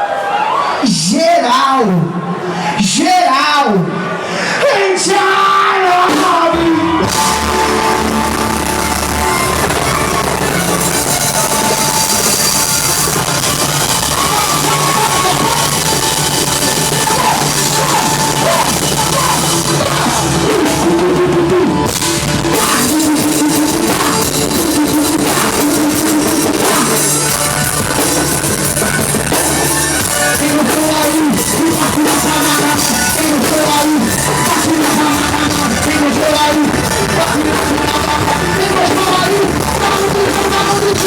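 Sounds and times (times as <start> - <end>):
band playing rock music: 5.0 - 41.0
drum kit: 6.0 - 41.0.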